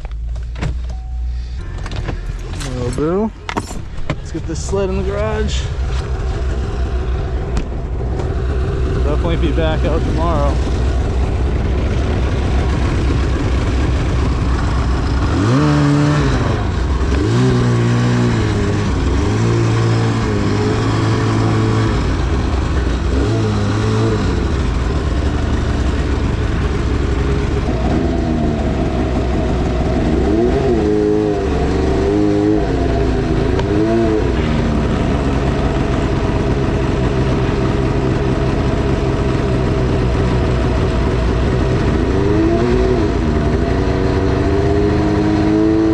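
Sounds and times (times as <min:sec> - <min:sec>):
engine throttle blips: 0:00.0 - 0:44.9.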